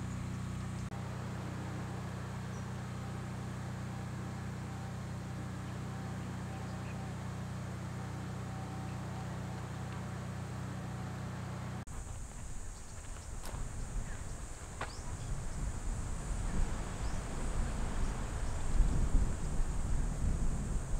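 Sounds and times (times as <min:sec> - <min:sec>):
low mechanical hum with hiss: 0:00.0 - 0:20.9.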